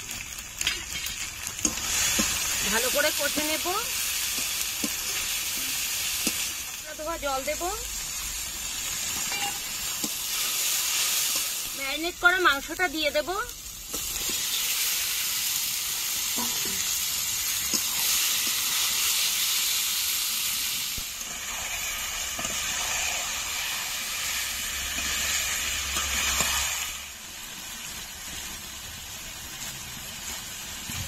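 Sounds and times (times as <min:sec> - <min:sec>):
chicken sizzling in frying pan: 0:00.0 - 0:31.0.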